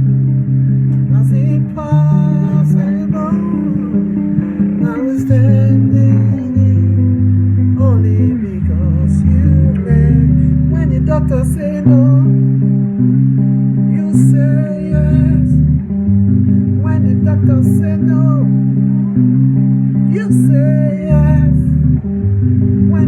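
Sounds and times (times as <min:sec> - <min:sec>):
bass guitar: 0:00.0 - 0:23.0
guitar: 0:00.0 - 0:23.0
person singing: 0:00.9 - 0:12.7, 0:13.8 - 0:19.2, 0:19.9 - 0:22.0.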